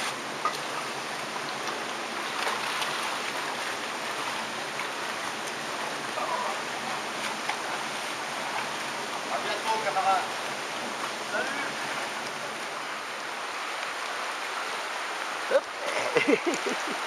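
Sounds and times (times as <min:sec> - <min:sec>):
people wading splashes: 0:00.0 - 0:17.0
river running over rocks: 0:00.0 - 0:17.0.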